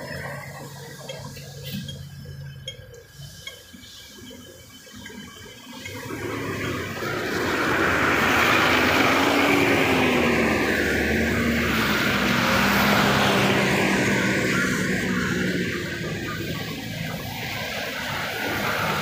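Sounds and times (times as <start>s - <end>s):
bus diesel engine running: 0.0s - 19.0s
street traffic: 0.0s - 19.0s.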